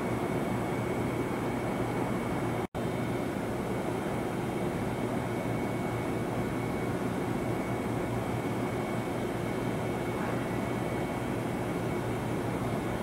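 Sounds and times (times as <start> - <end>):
faint high whine: 0.0 - 13.0
low station drone: 0.0 - 13.0.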